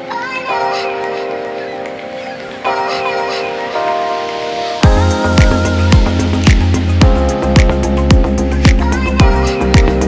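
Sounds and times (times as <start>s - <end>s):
background music chords: 0.0s - 10.0s.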